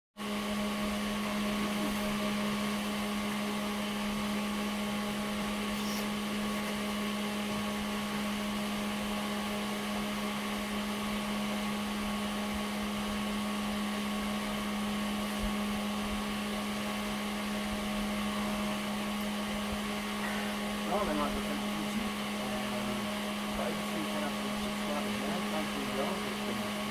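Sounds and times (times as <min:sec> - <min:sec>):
electrical hum and fan whir: 0:00.2 - 0:26.9.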